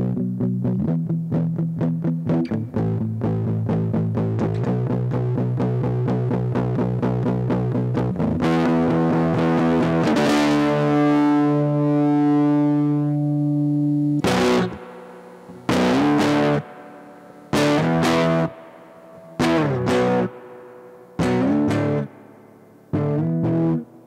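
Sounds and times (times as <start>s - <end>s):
fuzz electric guitar: 0.0s - 24.0s.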